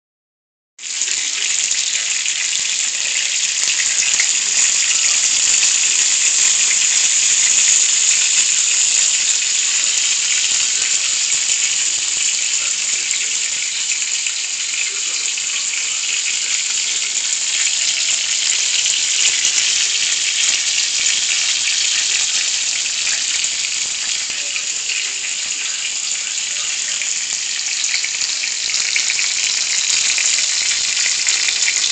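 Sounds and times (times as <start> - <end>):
chicken sizzling in frying pan: 0.8 - 31.9.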